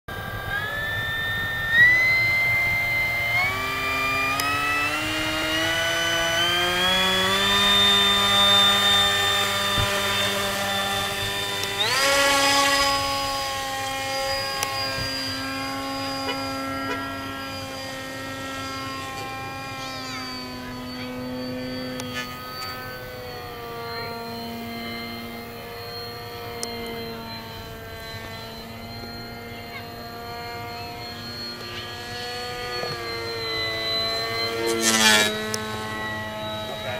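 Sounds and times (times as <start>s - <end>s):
electric motor and propeller whine: 0.1s - 36.9s.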